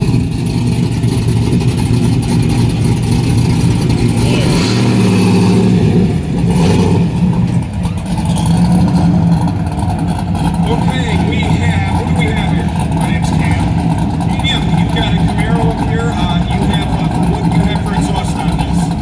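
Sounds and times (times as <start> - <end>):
loud car engine running: 0.0 - 19.0.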